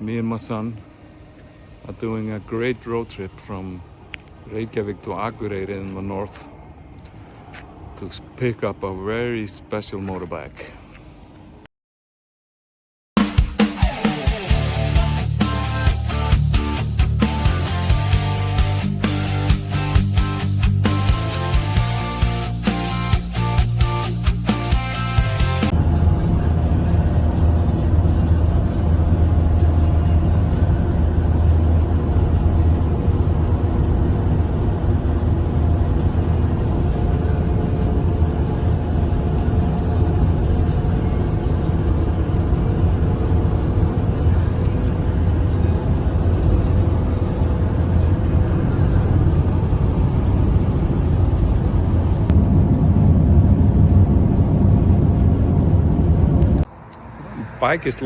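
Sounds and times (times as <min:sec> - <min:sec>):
road noise: 0:00.0 - 0:11.7, 0:13.2 - 0:58.0
vehicle engine rumble: 0:00.0 - 0:11.7, 0:14.1 - 0:58.0.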